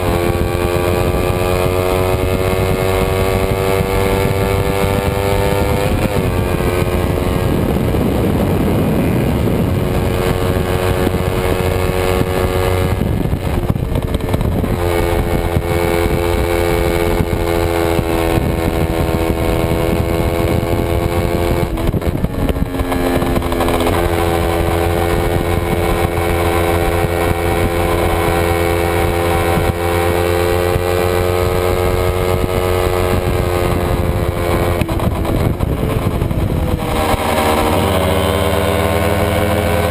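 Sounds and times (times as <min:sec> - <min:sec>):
racing motorcycle engine at high revs: 0:00.0 - 0:39.9
wind rush on microphone: 0:00.0 - 0:39.9.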